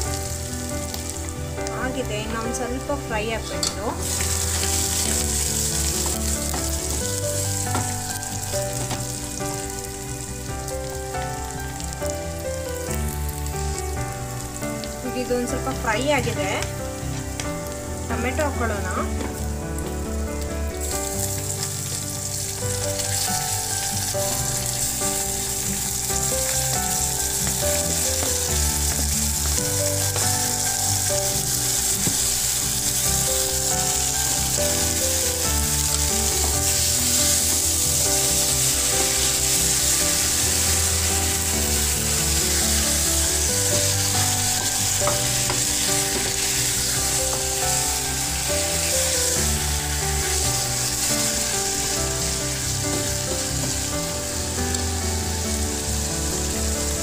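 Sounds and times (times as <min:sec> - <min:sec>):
tomatoes sizzling in hot oil: 0:00.0 - 0:57.0.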